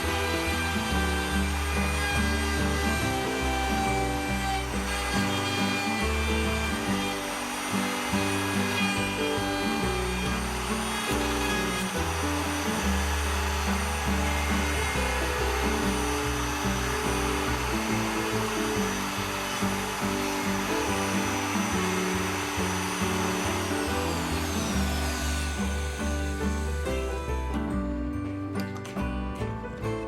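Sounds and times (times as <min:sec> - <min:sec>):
wood router motor whine: 0:00.0 - 0:29.0.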